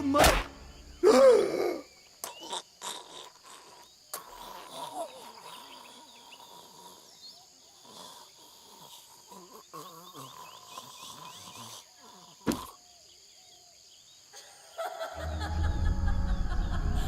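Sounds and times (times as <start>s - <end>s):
insect-like hum: 0.0s - 17.0s.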